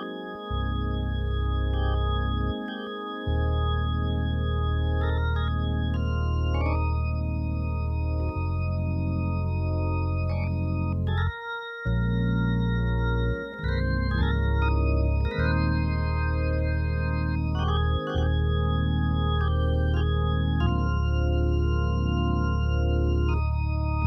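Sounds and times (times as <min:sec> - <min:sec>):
organ playing gospel chords: 0:00.0 - 0:24.0.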